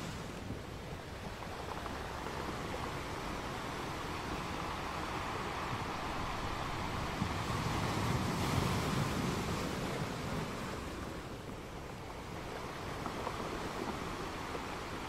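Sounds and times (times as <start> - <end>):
ocean waves rushing: 0.0 - 15.0.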